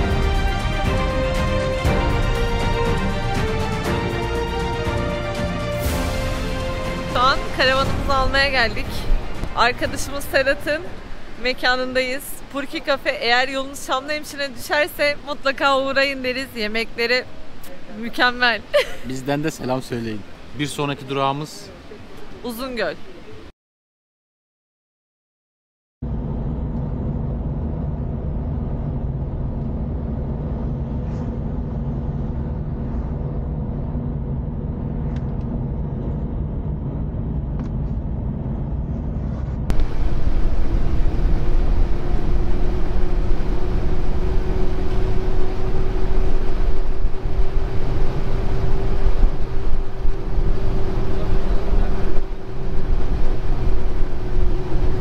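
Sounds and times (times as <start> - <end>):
engine and road hum: 0.0 - 23.5, 26.0 - 55.0
road and wind noise: 0.0 - 23.5, 26.0 - 55.0.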